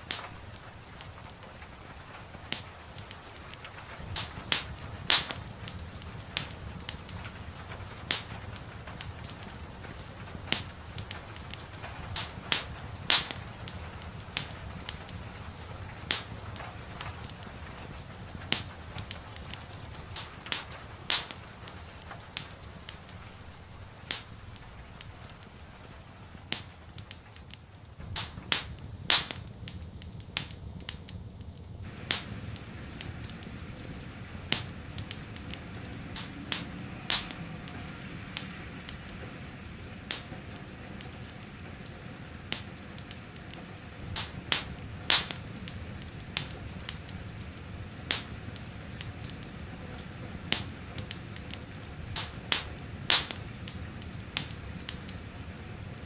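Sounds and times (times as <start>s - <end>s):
low steady rumble: 0.0s - 56.0s
rain hissing: 0.0s - 56.0s
wood fire crackling: 0.0s - 56.0s.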